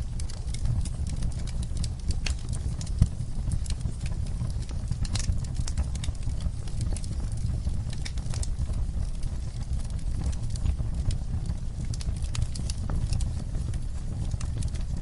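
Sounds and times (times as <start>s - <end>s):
fire rumbling: 0.0s - 15.0s
wood fire popping and snapping: 0.0s - 15.0s.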